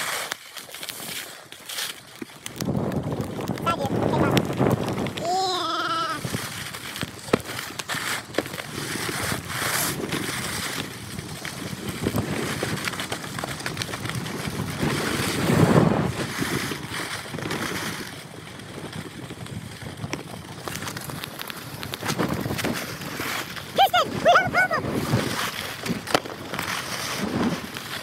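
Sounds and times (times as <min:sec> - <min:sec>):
skis scraping over snow: 0:00.0 - 0:28.0
wind buffeting microphone: 0:02.4 - 0:28.0.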